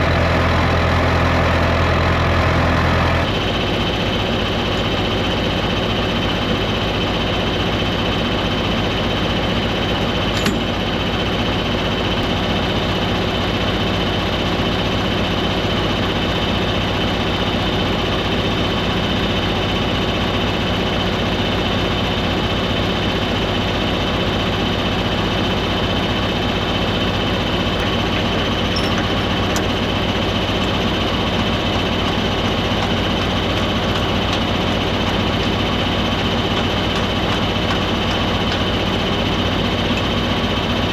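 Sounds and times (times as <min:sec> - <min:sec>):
farm vehicle engine running: 0:00.0 - 0:40.9.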